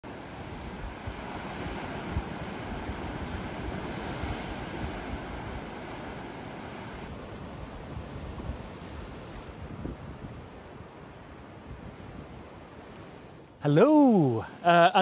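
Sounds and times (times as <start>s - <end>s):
wind gusting over microphone: 0.1s - 13.4s.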